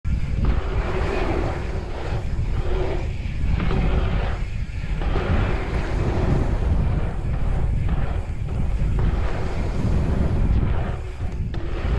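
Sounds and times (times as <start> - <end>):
bicycle tyres rolling on asphalt: 0.0 - 11.9
wind buffeting microphone: 0.0 - 11.9.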